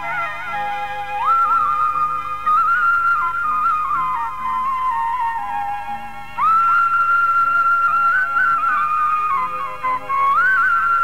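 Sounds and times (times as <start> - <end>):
soft lower accompaniment: 0.0 - 11.0.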